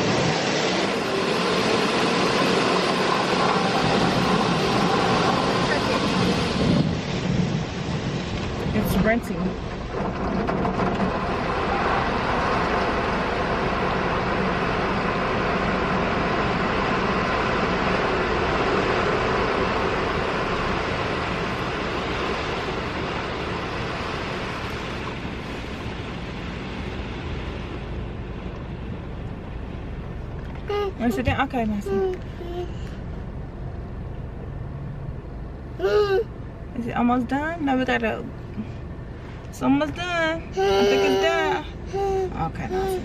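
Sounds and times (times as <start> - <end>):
car wash spraying water: 0.0 - 43.0.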